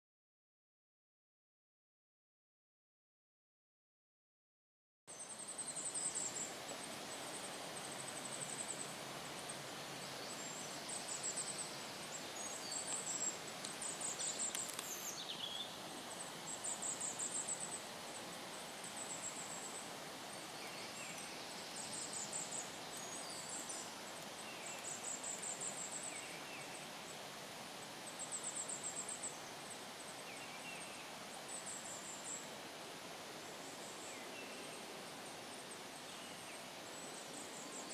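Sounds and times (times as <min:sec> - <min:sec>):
woodland background hiss: 0:05.1 - 0:37.9.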